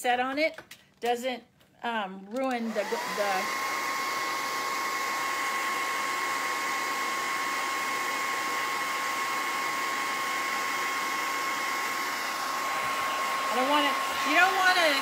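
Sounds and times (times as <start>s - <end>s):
hair dryer running: 2.5s - 15.0s.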